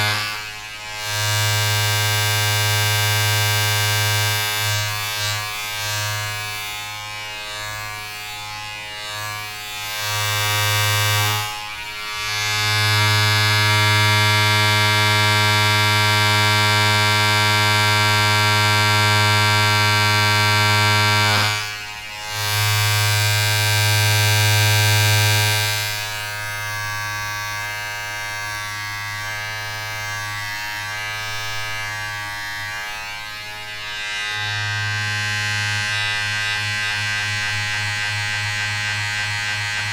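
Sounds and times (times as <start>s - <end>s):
small electric motor buzzing: 0.0s - 39.9s.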